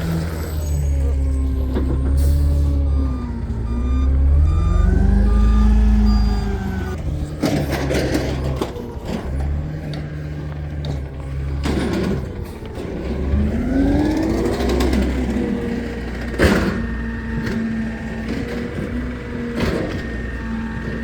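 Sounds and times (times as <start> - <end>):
garbage truck engine revving: 0.0 - 21.0.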